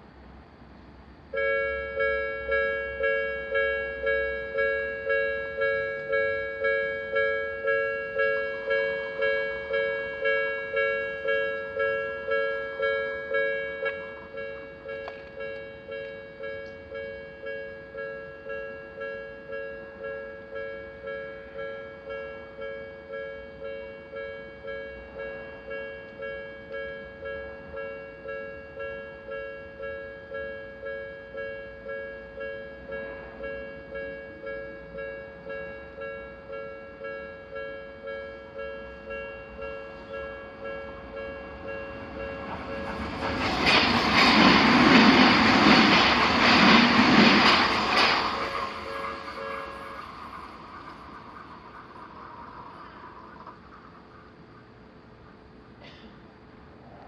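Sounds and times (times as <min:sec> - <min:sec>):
railroad crossing bell ringing: 0:01.3 - 0:55.7.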